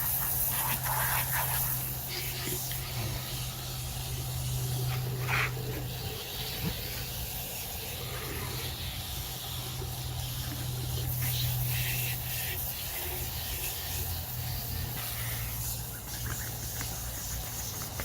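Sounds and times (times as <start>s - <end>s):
water running from a hose: 0.0s - 18.0s.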